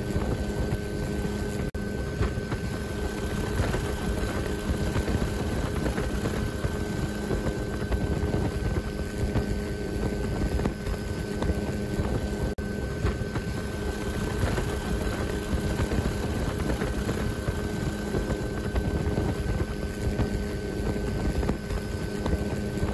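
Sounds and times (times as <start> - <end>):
engine drone: 0.0 - 22.9.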